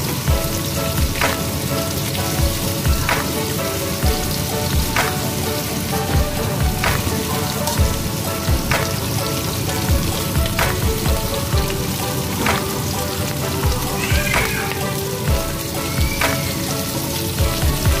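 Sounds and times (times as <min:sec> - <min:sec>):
skewers sizzling in oil: 0:00.0 - 0:18.0.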